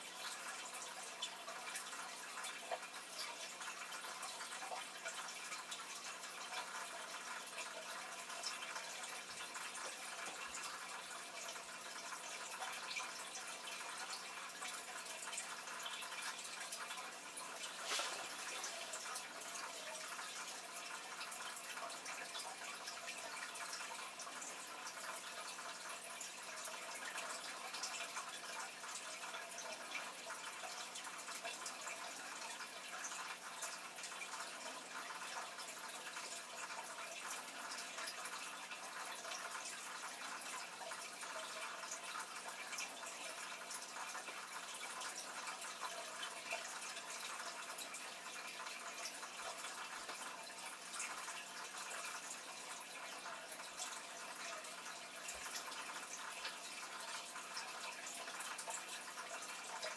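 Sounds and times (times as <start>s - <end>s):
aquarium water trickling and bubbling: 0.0s - 59.9s.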